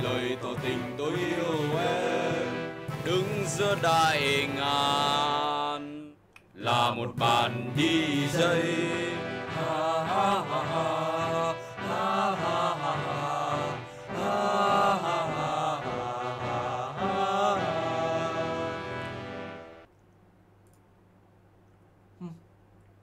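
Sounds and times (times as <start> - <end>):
men singing together: 0.0 - 19.1.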